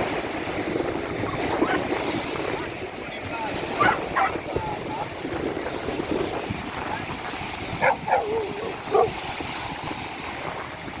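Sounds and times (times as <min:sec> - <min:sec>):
sea waves and wind: 0:00.0 - 0:11.0.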